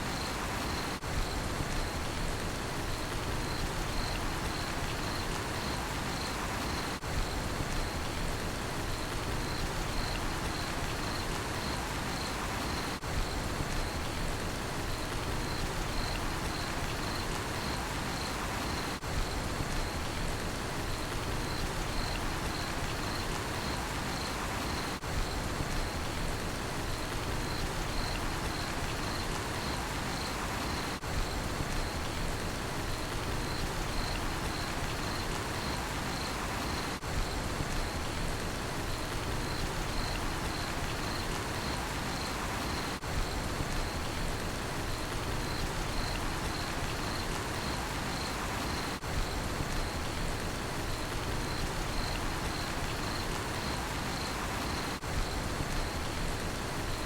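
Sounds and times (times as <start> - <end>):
cricket chirping: 0.0 - 2.2, 2.8 - 8.2, 8.9 - 14.2, 14.8 - 20.2, 20.9 - 26.2, 26.8 - 32.2, 32.9 - 57.0.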